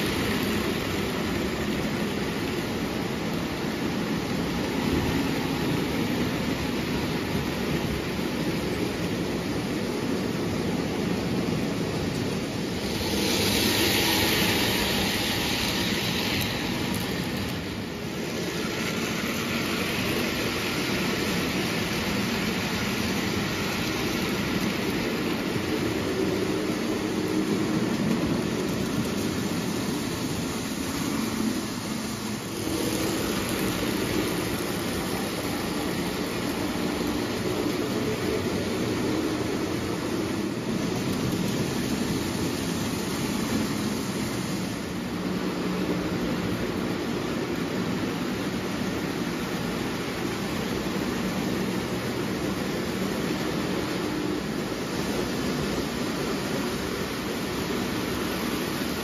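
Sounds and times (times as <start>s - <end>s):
toy train wheels rumbling and clattering: 0.0s - 59.0s.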